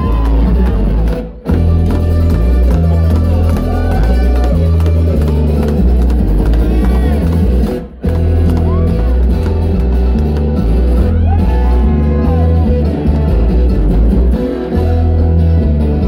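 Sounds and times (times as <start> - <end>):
acoustic guitar: 0.0 - 16.0
upright bass: 0.0 - 16.0
banjo: 0.3 - 16.0.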